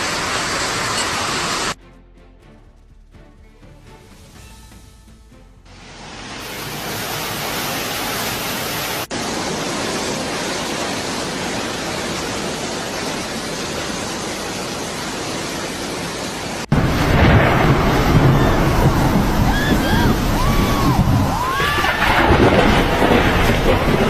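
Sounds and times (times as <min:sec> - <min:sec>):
heavy rain hissing: 0:00.0 - 0:01.8, 0:05.7 - 0:24.0.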